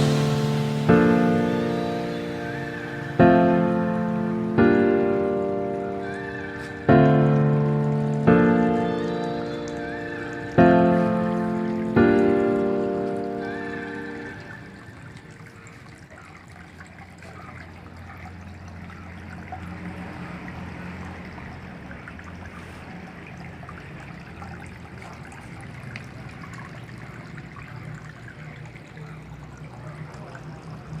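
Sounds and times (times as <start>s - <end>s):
water trickling and splashing: 0.0s - 31.0s.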